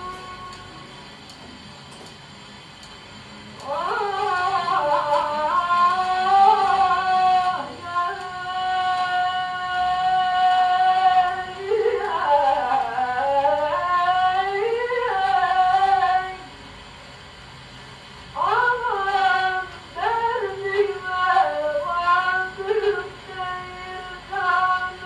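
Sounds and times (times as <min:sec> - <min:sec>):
record surface hiss: 0:00.0 - 0:25.0.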